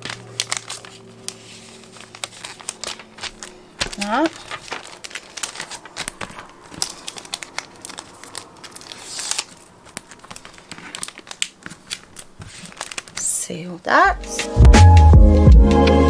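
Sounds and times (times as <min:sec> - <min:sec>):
plastic sleeve crinkling: 0:00.0 - 0:13.4.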